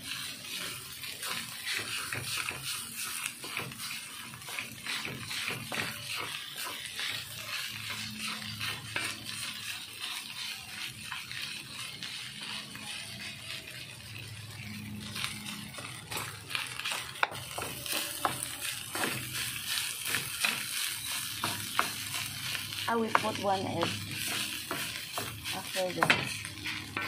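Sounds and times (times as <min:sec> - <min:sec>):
light frying sizzle: 0:00.0 - 0:27.0
spatula scraping rice in a wok: 0:00.0 - 0:27.0.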